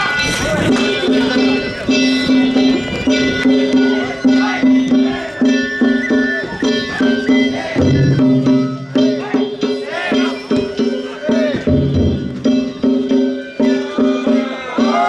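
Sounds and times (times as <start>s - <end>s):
high flute melody: 0.0s - 11.7s, 12.5s - 15.0s
drums and gongs: 0.0s - 15.0s.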